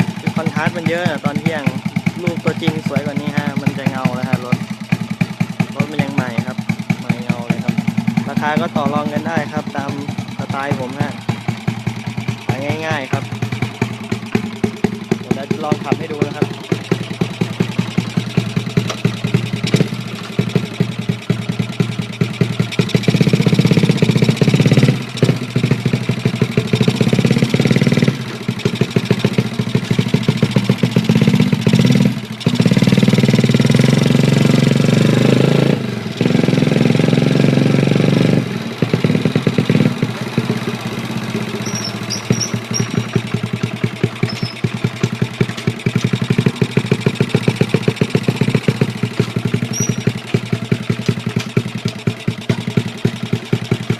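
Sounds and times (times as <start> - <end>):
minibike engine revving: 0.0 - 53.9.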